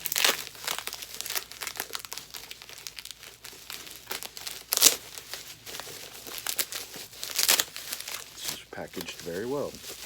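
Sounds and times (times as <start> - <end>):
bubble wrap and paper crinkling: 0.0 - 10.0.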